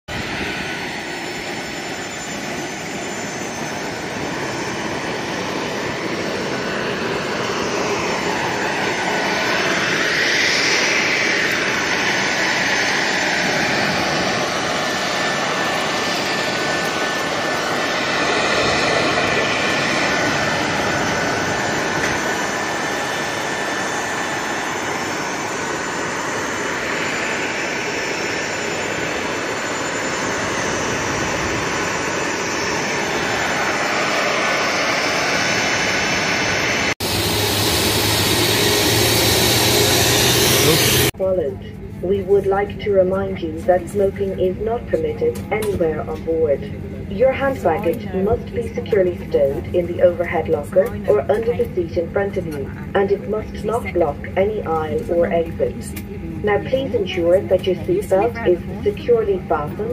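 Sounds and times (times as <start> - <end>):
jet engine high whine: 0.1 - 59.9
jet rushing roar: 0.1 - 59.9.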